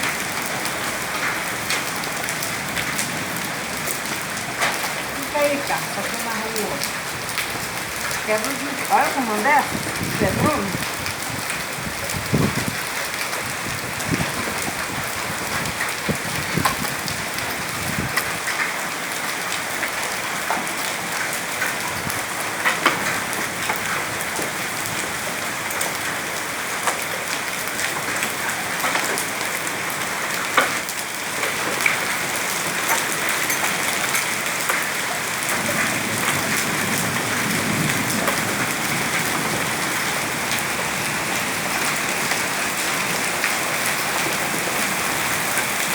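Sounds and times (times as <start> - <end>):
heavy rain downpour: 0.0 - 45.9.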